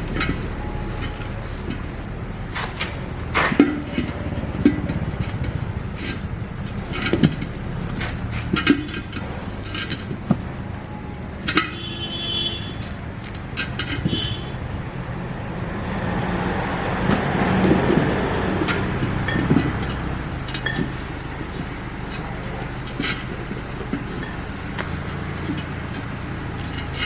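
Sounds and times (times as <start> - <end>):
low engine hum: 0.0 - 27.0
metal clinks and knocks: 0.0 - 27.0.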